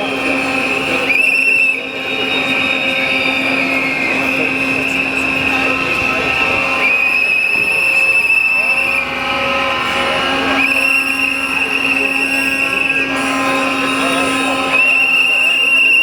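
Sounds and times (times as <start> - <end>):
crowd noise: 0.0 - 16.0
shrill whistle blowing: 0.0 - 16.0.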